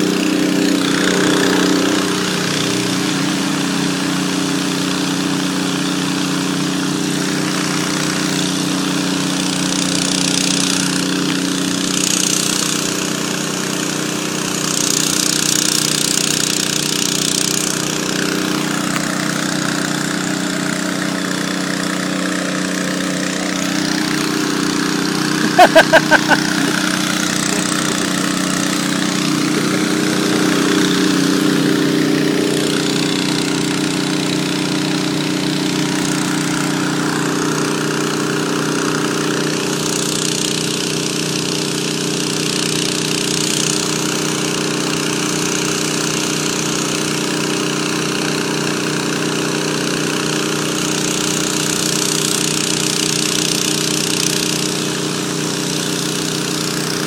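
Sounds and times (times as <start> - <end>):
vehicle engine running steadily: 0.0 - 57.0.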